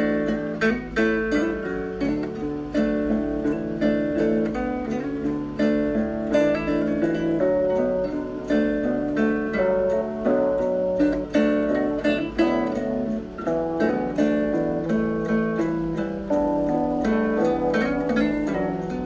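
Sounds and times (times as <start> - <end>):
plucked string notes: 0.0 - 19.0.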